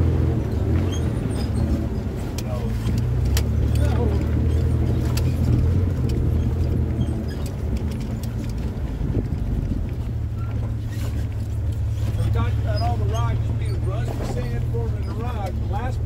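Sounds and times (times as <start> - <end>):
engine running low drone: 0.0 - 16.0
clicks and rattles: 2.3 - 15.9.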